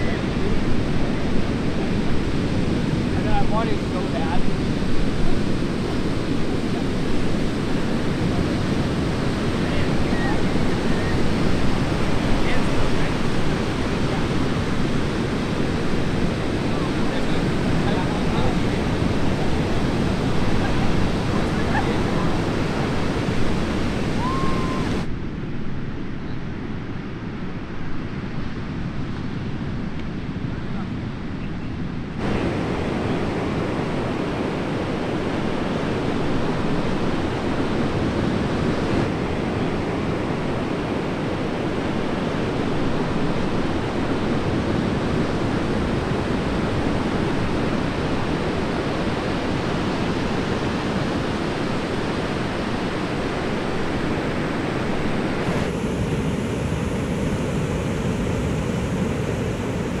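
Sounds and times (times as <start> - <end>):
heavy surf breaking: 0.0 - 25.1, 32.0 - 60.0.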